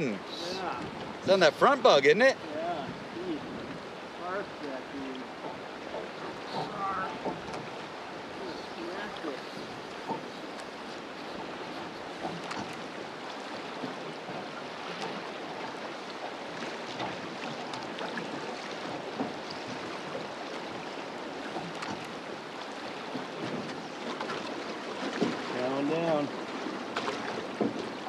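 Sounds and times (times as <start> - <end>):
river water rushing: 0.0 - 28.0
small water splashes: 0.0 - 28.0.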